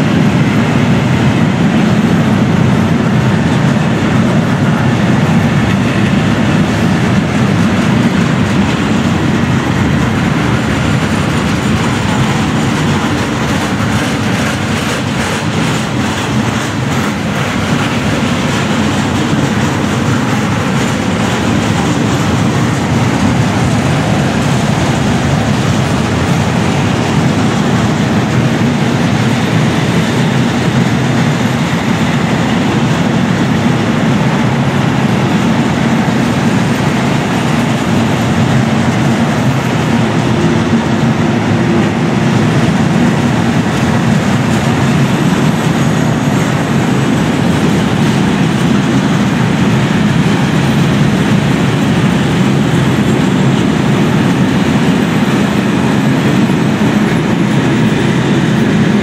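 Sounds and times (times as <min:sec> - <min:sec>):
clattering over track: 0:00.0 - 0:59.0
freight train wheels rumbling: 0:00.0 - 0:59.0.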